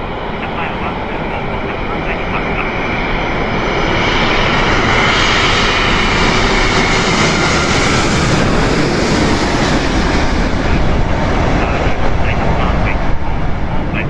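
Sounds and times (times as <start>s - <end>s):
jet airliner roaring overhead: 0.0s - 14.0s.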